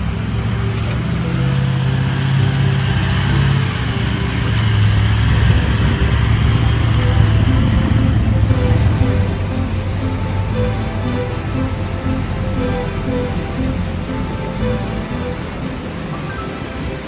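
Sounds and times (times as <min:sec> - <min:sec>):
engine running low: 0:00.0 - 0:17.0.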